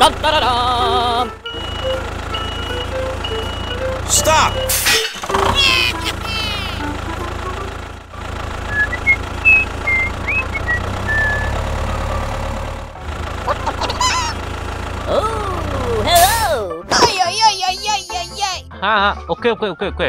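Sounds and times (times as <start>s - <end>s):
tractor engine droning: 0.0s - 18.0s.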